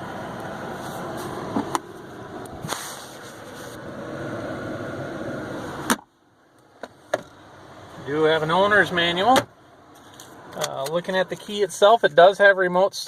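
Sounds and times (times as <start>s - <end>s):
car air conditioning blower: 0.0s - 11.6s
car engine idling: 0.0s - 12.3s.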